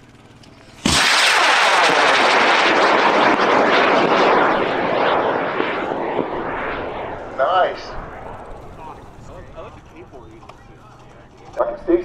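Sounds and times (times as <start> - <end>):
rocket motor roaring: 0.0 - 11.6.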